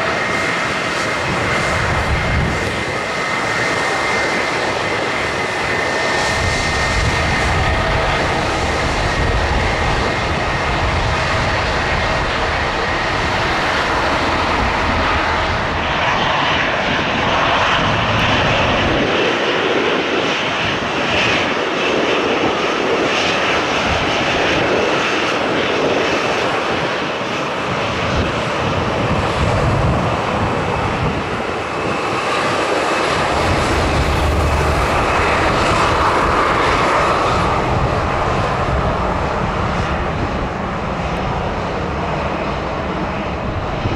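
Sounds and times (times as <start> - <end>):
jet engines roaring: 0.0 - 43.9.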